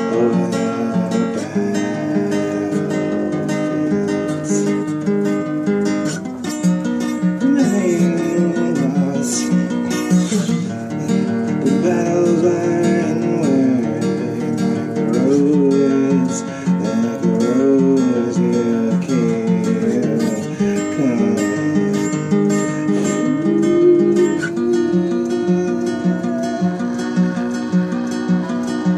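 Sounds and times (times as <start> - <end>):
person singing: 0.0 - 5.5, 7.2 - 28.9
acoustic guitar strumming: 0.0 - 28.9.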